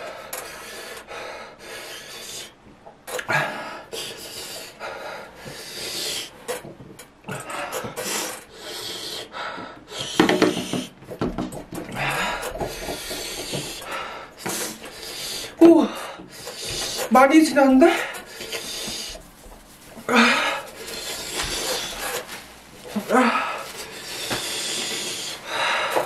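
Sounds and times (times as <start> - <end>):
man panting hard: 0.0 - 6.4, 7.3 - 11.0, 11.8 - 17.1, 17.8 - 26.0.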